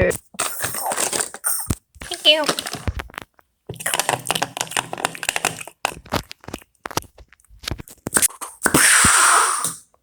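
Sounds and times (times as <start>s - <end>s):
popcorn crunching and crackling: 0.0s - 9.1s.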